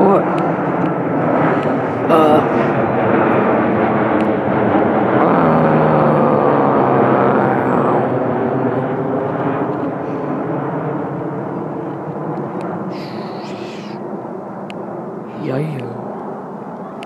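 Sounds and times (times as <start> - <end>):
airplane flying overhead: 0.0 - 17.0.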